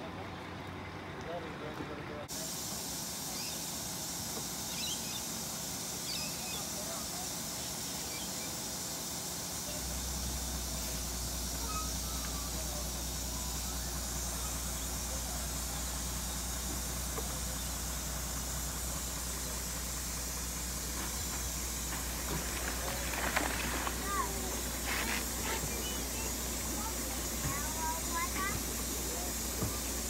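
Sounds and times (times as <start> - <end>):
truck engine humming: 0.0 - 30.0
steady hiss: 2.3 - 30.0.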